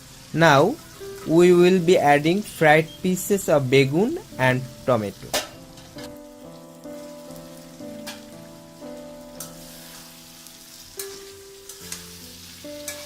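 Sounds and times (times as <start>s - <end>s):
background music of held notes: 0.0s - 13.0s
curry sizzling in a frying pan: 0.0s - 13.0s.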